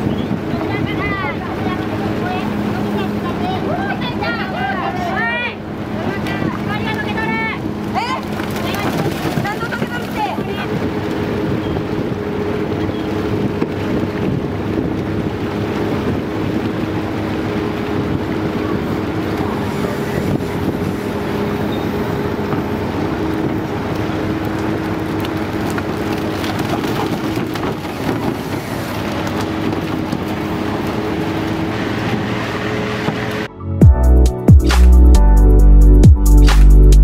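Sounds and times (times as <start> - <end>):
wind buffeting microphone: 0.0 - 33.5
deck machinery humming: 0.0 - 37.0.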